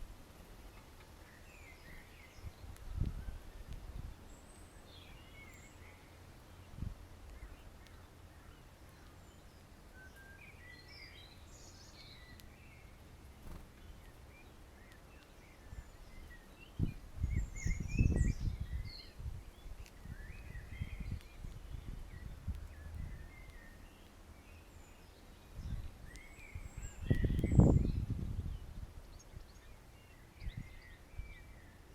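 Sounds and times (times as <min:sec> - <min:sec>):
songbirds chirping: 0:00.0 - 0:31.9.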